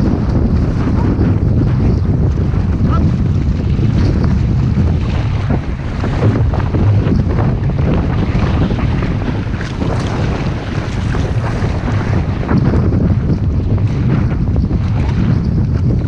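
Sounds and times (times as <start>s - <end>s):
paddles dipping in water: 0.0s - 16.0s
water rushing along a hull: 0.0s - 16.0s
wind buffeting microphone: 0.0s - 16.0s.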